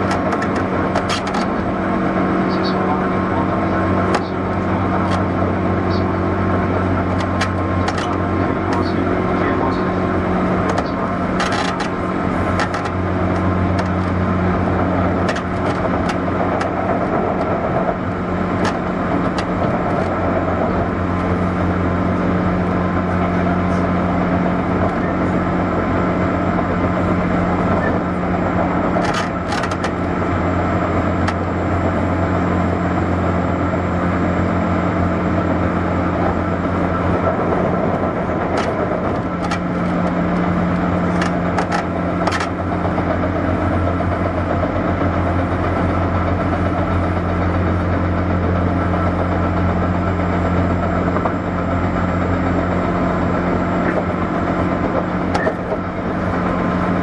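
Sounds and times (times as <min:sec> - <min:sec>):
electric train interior hum: 0:00.0 - 0:57.0.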